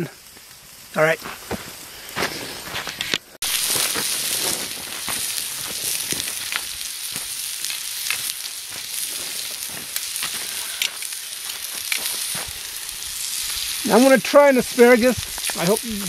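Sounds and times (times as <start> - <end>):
steak sizzling: 0.0 - 16.0
pops and crackles: 0.3 - 16.0.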